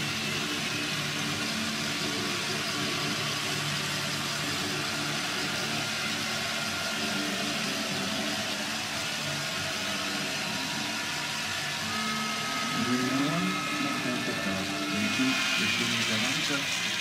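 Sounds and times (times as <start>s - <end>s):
stadium crowd cheering: 0.0s - 17.0s.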